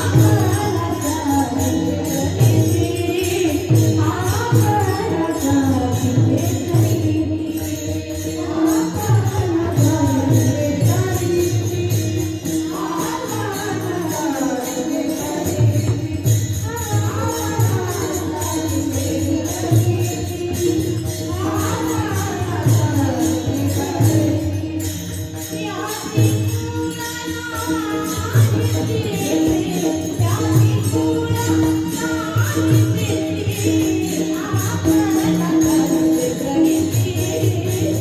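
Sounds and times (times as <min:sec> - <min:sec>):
voices singing devotional melody: 0:00.0 - 0:38.0.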